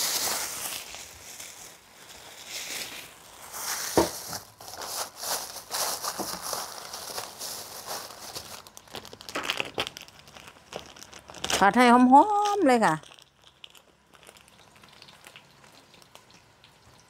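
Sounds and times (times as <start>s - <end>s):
garlic sizzling in hot fat: 0.0s - 17.0s.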